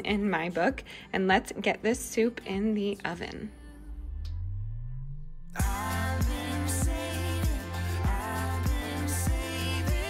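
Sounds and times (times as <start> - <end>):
pop song with heavy bass: 0.1 - 10.0.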